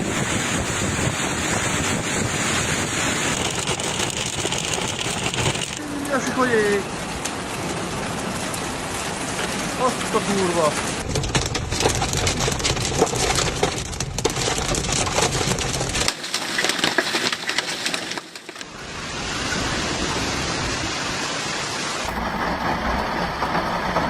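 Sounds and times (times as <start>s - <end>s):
hailstones clattering: 0.0s - 18.7s, 22.0s - 24.0s
rain hissing: 0.0s - 24.0s.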